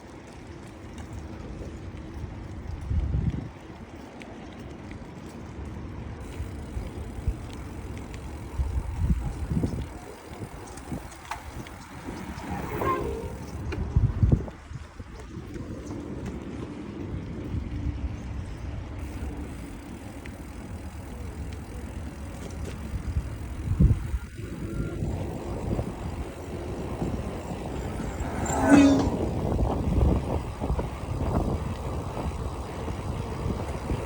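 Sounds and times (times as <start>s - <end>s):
bicycle road noise: 0.0s - 34.0s
wind buffeting microphone: 2.2s - 4.0s, 6.2s - 34.0s.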